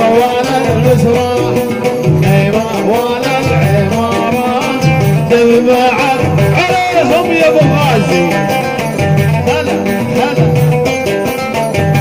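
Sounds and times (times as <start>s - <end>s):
steady low drum beat: 0.0s - 12.0s
wavering folk melody: 0.0s - 12.0s.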